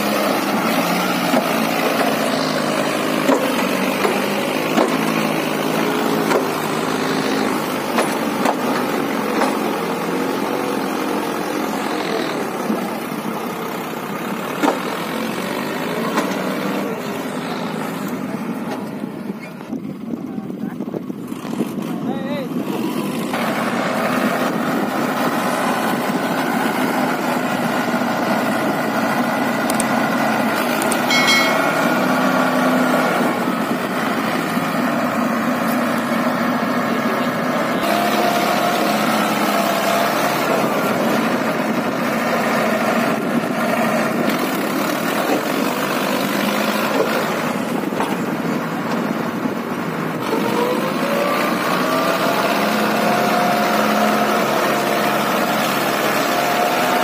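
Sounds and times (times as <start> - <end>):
tractor diesel engine straining: 0.0 - 57.0.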